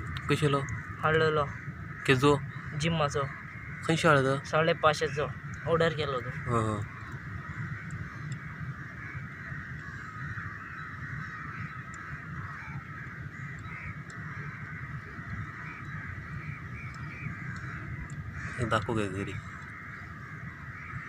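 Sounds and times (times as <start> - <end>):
chorus of animal calls: 0.0 - 21.0
low rumble: 0.0 - 21.0.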